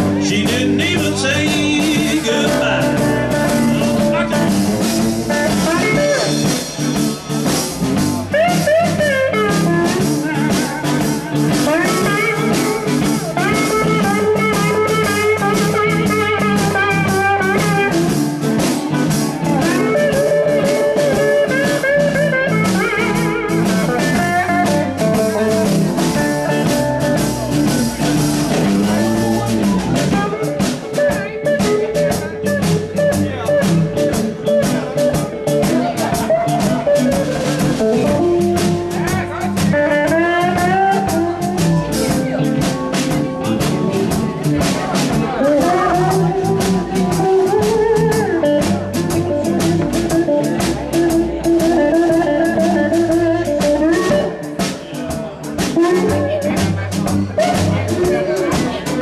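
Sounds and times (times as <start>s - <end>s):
drum kit: 0.0s - 59.0s
rhythm guitar: 0.0s - 59.0s
electric guitar solo: 2.3s - 54.8s, 55.5s - 59.0s.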